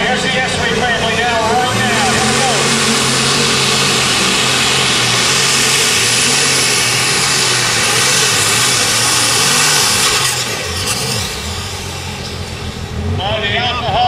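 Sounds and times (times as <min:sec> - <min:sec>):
tractor engine at full throttle: 0:00.0 - 0:14.0.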